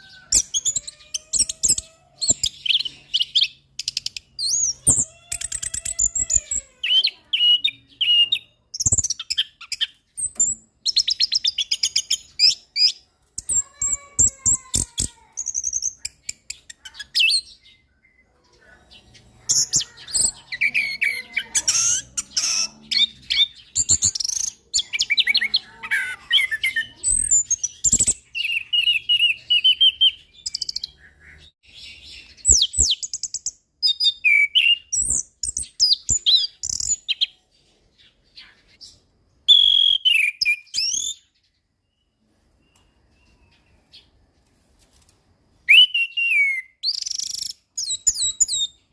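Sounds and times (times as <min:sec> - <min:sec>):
thrush singing trills and whistles: 0:00.0 - 0:18.3, 0:18.9 - 0:37.4, 0:38.6 - 0:41.4, 0:45.6 - 0:48.9.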